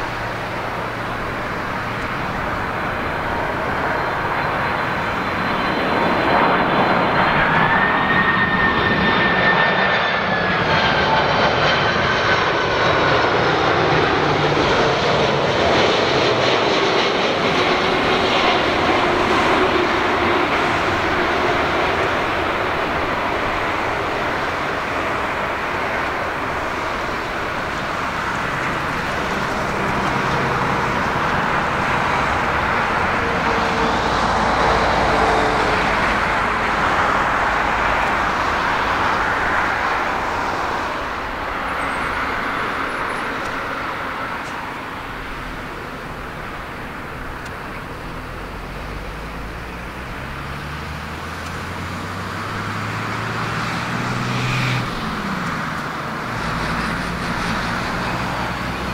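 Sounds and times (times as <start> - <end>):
jet airliner engine noise: 0.0 - 58.9.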